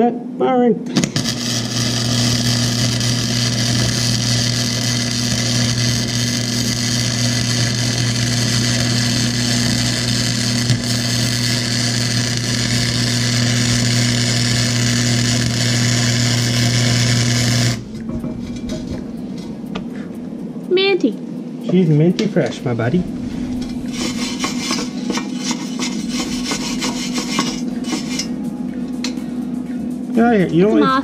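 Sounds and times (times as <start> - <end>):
welding arc crackling sizzle: 0.9 - 19.8, 21.9 - 28.5
welder hum: 0.9 - 20.4, 22.6 - 29.4.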